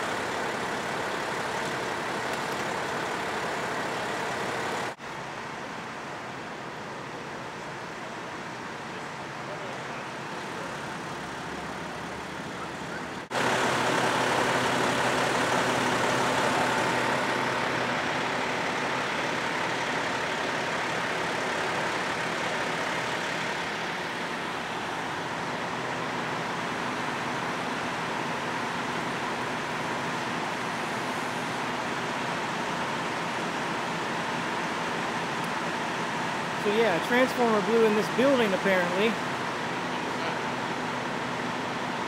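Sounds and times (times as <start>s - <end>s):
fire engine idling: 0.0s - 42.0s.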